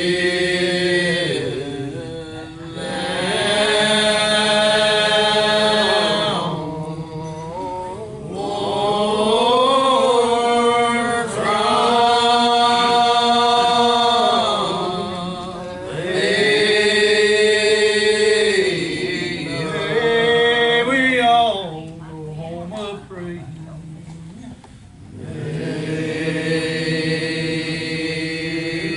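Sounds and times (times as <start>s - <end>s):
church choir singing: 0.0s - 21.6s, 25.1s - 28.9s.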